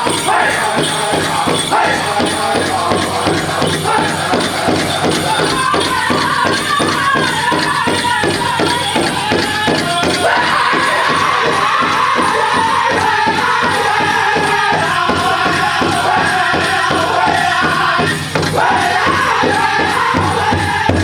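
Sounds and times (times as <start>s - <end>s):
big drum steady beat: 0.0s - 21.0s
group singing: 0.0s - 21.0s.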